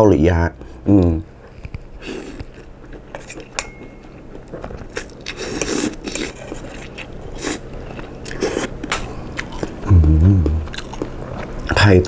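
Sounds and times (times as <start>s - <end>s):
person chewing noodles: 0.5s - 11.8s.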